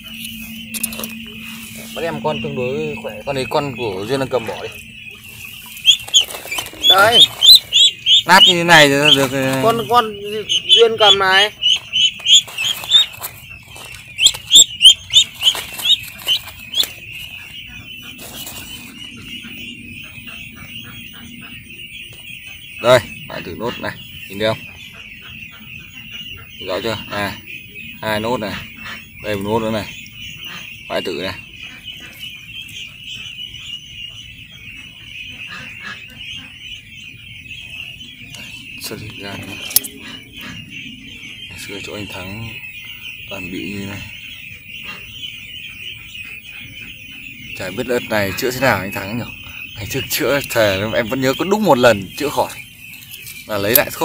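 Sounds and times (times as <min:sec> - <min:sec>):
duckling loud sharp peeps: 0:00.0 - 0:54.0
flock of ducklings peeping: 0:00.0 - 0:54.0.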